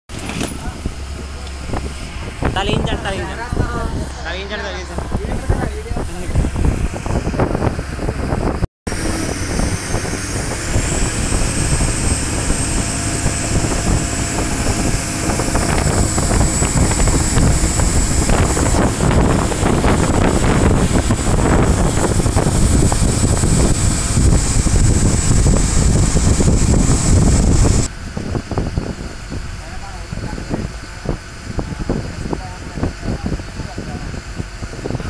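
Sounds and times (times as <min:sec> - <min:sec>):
boat engine running: 0:00.1 - 0:35.0
wind buffeting microphone: 0:00.1 - 0:35.0.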